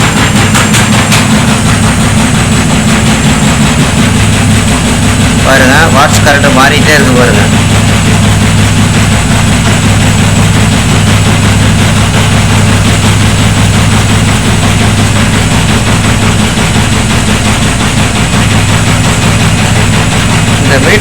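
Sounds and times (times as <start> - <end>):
washing machine hum: 0.0 - 21.0.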